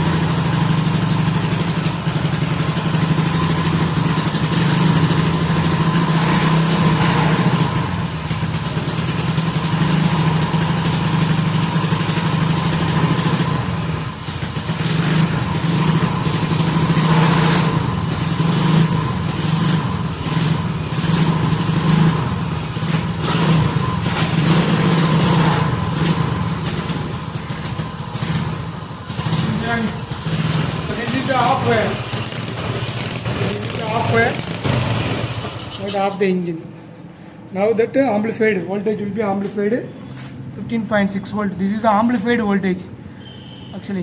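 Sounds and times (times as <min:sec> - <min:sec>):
small petrol engine running: 0:00.0 - 0:36.4.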